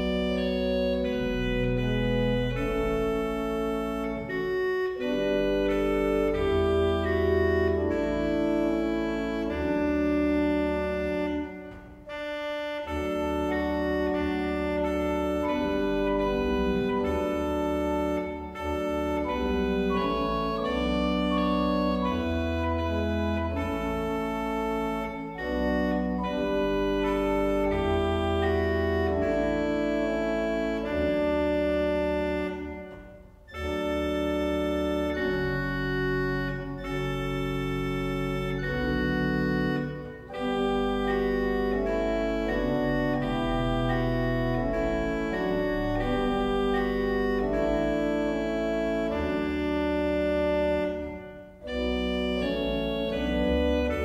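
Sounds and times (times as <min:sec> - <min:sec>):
pipe organ playing: 0:00.0 - 0:54.0.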